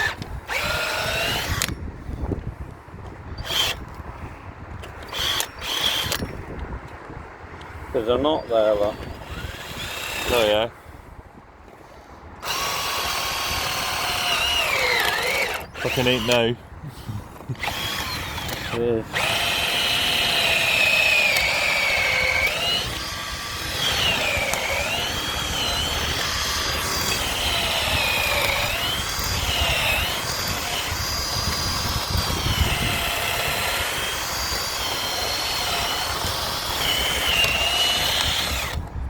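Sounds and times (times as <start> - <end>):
power tool cutting wood: 0.0 - 1.7, 3.4 - 3.8, 5.1 - 6.2, 8.7 - 10.6, 12.4 - 38.9.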